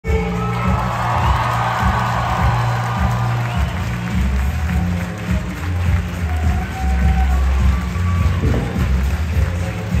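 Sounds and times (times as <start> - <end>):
loud music with heavy bass: 0.0 - 10.0
crowd cheering: 0.3 - 10.0.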